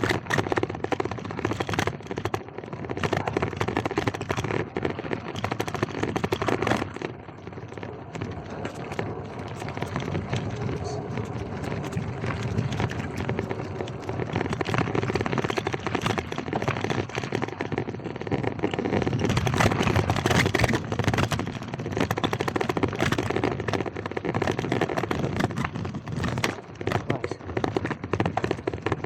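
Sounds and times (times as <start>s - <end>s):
bike rattling: 0.0s - 29.0s
bike tyres crunching on gravel: 0.0s - 29.0s.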